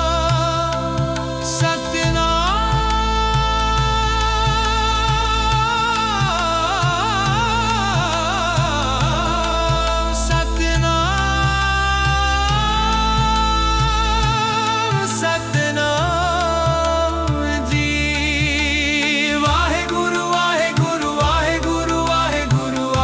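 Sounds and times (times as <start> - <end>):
devotional music with held notes: 0.0 - 23.0
steady low beat: 0.0 - 23.0.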